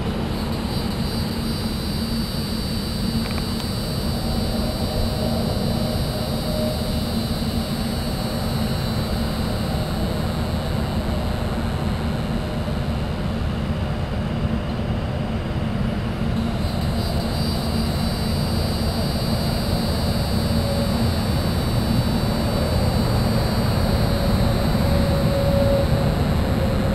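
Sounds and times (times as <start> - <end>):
night insects droning: 0.0 - 26.9.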